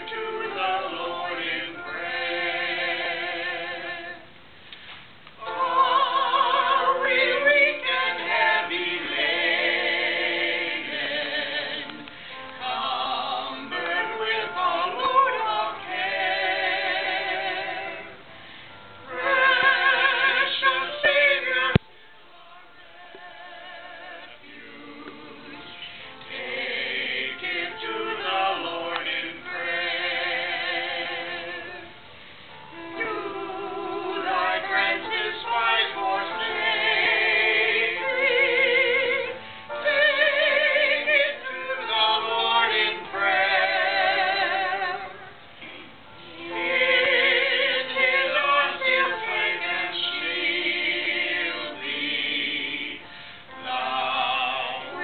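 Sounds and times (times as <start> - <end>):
group singing: 0.0 - 4.2, 5.4 - 18.2, 19.1 - 32.0, 32.8 - 55.0.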